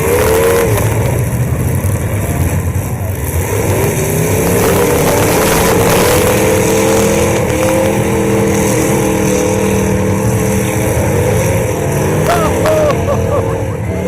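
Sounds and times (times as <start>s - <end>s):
car engines running loud: 0.0s - 14.0s.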